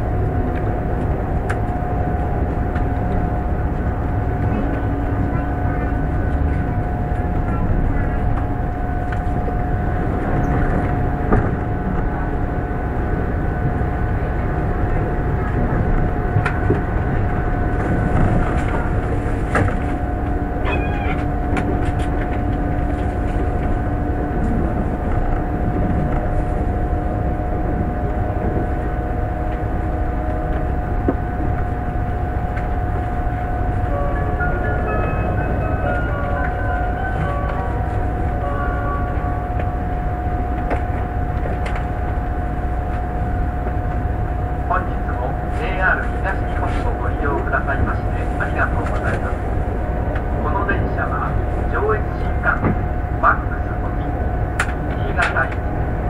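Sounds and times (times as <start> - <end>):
constant whine: 0.0 - 56.0
train wheels rumbling on rail: 0.0 - 56.0.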